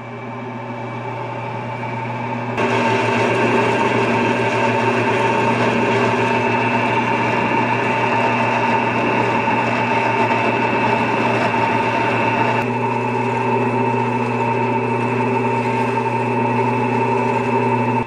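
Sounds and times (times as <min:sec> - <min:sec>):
bandsaw motor hum and blade whine: 0:00.0 - 0:18.0.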